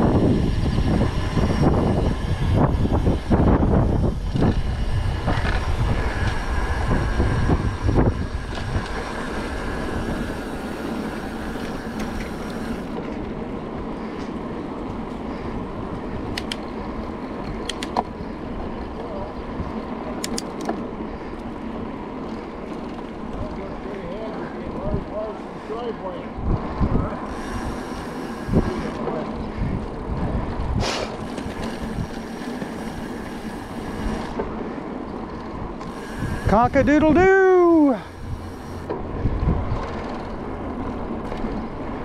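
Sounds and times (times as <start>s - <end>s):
freeway traffic rumble: 0.0s - 42.0s.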